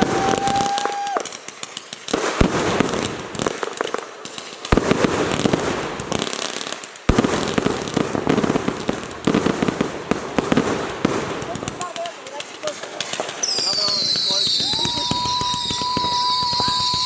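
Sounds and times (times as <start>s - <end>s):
firework bangs: 0.0s - 17.0s
rapid firework crackling: 0.0s - 17.0s.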